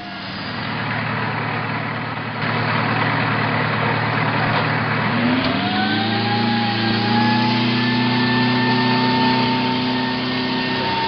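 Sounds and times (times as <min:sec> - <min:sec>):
engine revving: 0:00.0 - 0:11.0
heavy vehicle engines running: 0:00.0 - 0:11.0.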